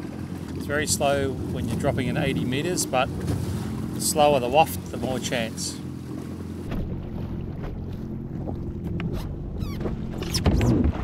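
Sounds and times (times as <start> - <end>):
water noise: 0.0 - 11.0.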